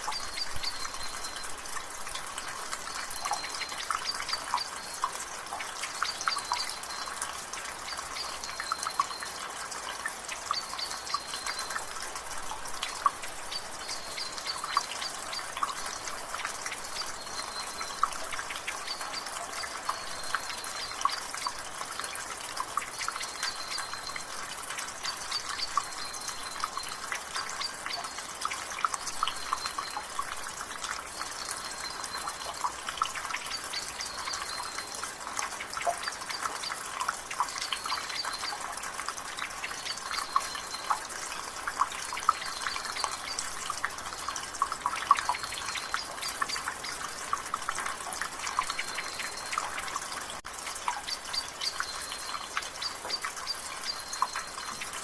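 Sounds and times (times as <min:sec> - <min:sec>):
rain: 0:00.0 - 0:55.0
water dripping from a gutter: 0:00.0 - 0:55.0.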